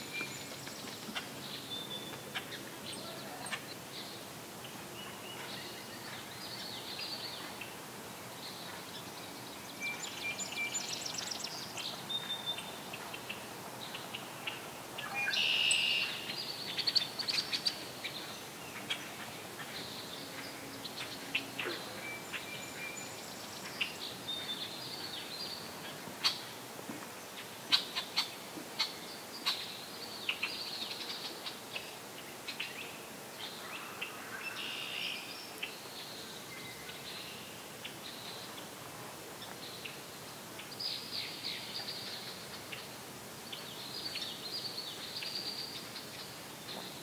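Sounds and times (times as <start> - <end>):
faint outdoor hiss: 0.0 - 47.0.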